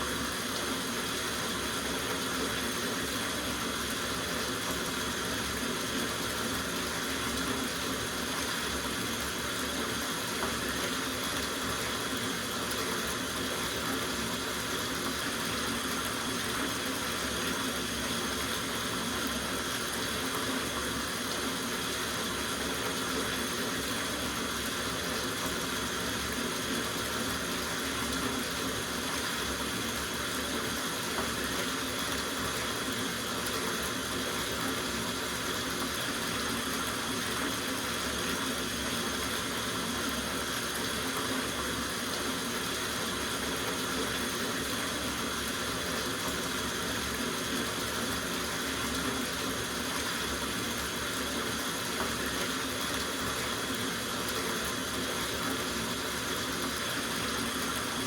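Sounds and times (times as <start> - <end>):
tap water filling a tub: 0.0 - 58.0.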